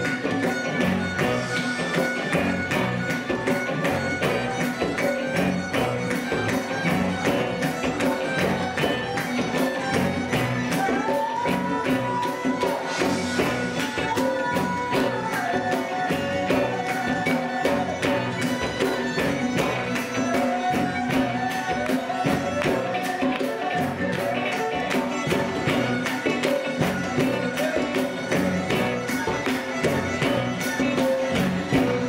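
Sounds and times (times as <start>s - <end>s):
crisp percussion beat: 0.0s - 32.0s
sustained melody line: 0.0s - 32.0s.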